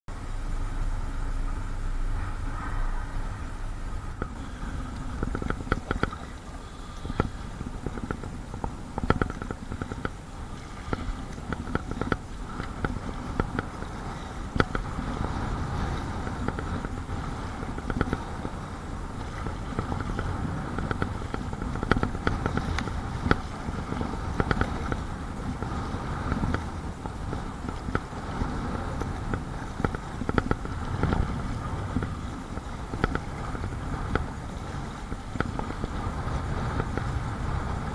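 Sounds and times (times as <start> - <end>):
water splashing against kayak: 0.1 - 37.9
wind buffeting microphone: 0.1 - 37.9.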